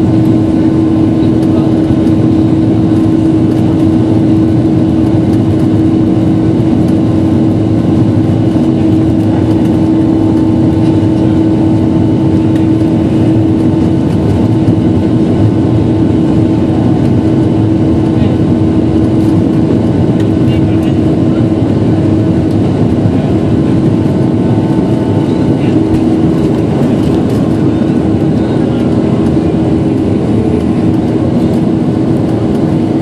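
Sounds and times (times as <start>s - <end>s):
jet engine hum in cabin: 0.0s - 33.0s.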